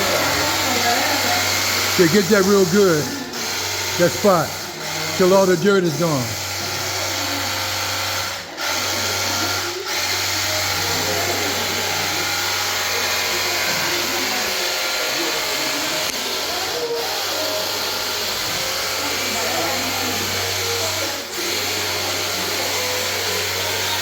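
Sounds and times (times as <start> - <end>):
motor humming: 0.0 - 24.0
water jet hissing: 0.0 - 24.0.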